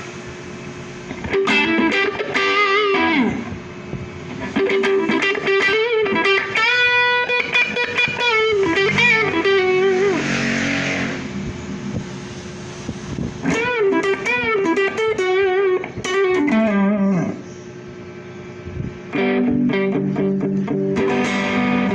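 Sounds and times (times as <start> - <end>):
electric guitar lead phrases: 1.1 - 11.7, 13.4 - 17.6, 19.1 - 21.9.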